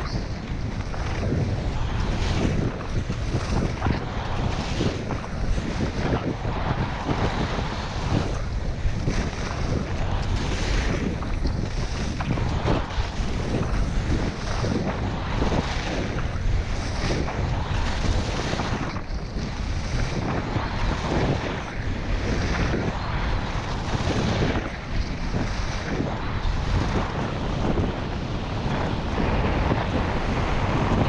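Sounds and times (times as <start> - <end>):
skis scraping over snow: 0.0 - 31.0
wind buffeting microphone: 0.0 - 31.0.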